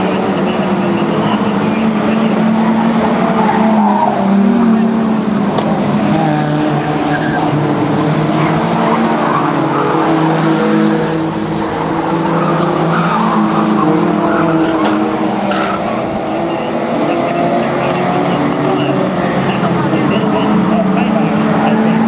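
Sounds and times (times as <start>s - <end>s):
racing car engines: 0.0s - 22.0s
tyres sliding on loose track: 0.0s - 22.0s.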